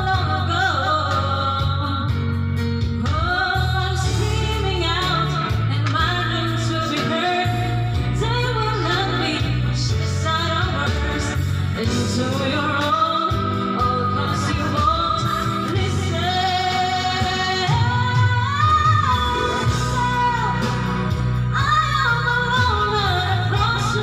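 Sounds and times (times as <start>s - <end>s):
recorded backing music: 0.0s - 24.0s
woman singing into microphone: 0.0s - 24.0s.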